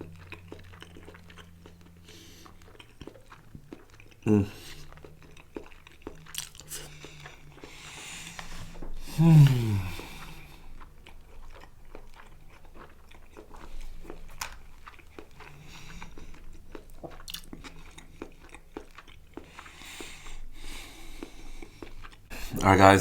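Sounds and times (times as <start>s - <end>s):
chewing mouth sounds: 0.0s - 23.0s.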